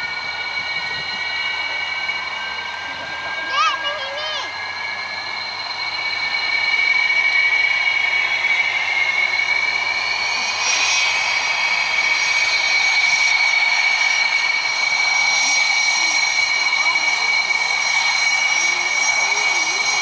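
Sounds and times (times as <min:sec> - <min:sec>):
jet engines whining: 0:00.0 - 0:20.0.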